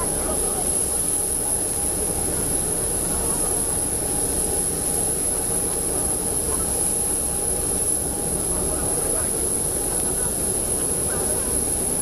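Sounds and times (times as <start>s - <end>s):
jet engine whine and rumble: 0.0s - 12.0s.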